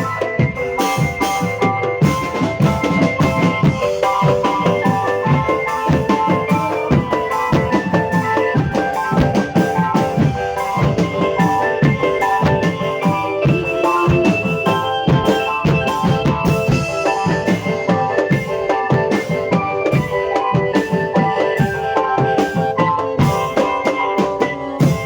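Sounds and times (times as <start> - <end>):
music with fast drum beat: 0.0 - 25.0.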